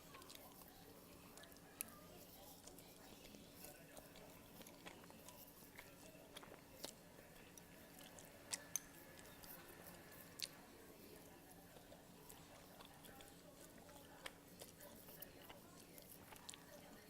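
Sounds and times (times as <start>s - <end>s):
faint chewing of noodles: 0.0s - 17.0s.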